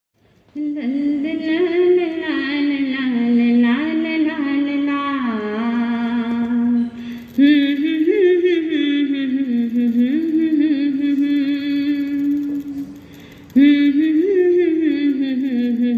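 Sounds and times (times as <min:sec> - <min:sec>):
woman singing unaccompanied: 0:00.5 - 0:15.9.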